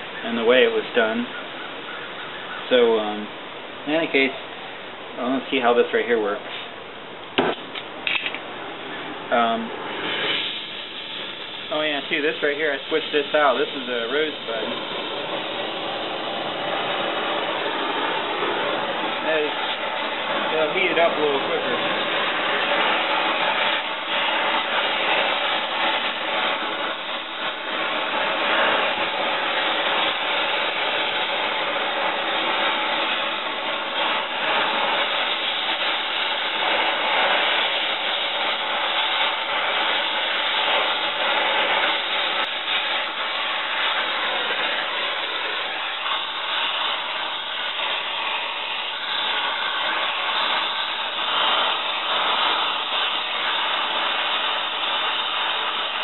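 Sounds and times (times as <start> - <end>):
torch flame hissing: 0.0 - 56.0.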